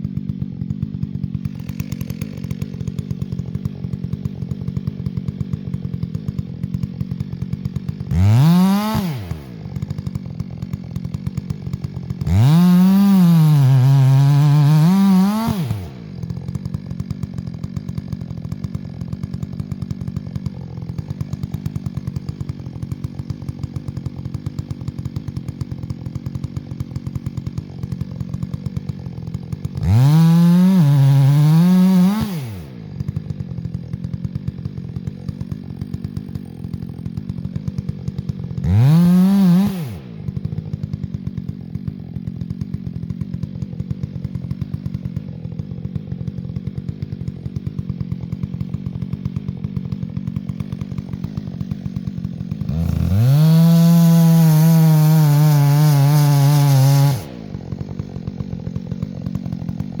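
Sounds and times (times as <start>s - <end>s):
chainsaw idling and revving: 0.0s - 60.0s.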